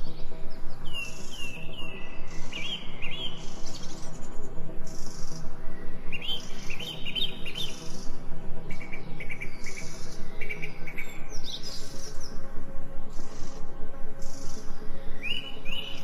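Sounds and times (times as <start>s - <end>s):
pulsing low hum: 0.0s - 16.0s
songbirds chirping and trilling: 0.0s - 16.0s.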